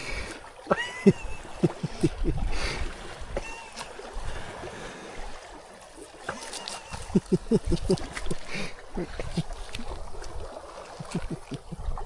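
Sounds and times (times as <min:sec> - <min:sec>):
water gurgling and lapping: 0:00.0 - 0:12.0.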